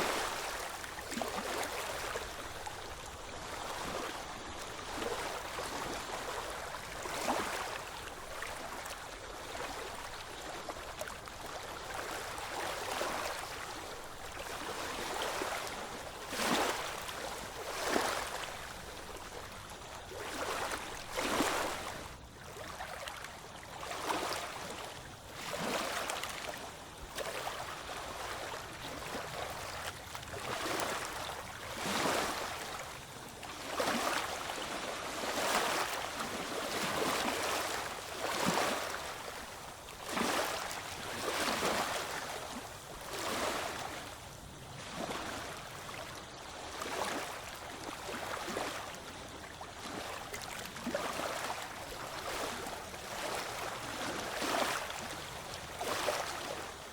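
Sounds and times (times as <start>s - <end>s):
waves splashing: 0.0s - 23.2s, 23.8s - 56.9s.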